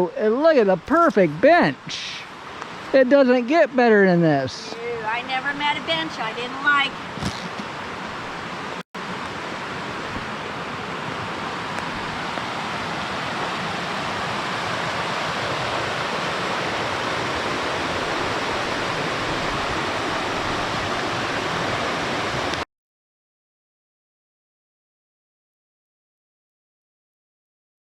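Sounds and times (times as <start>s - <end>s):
river water rushing: 0.2s - 22.6s.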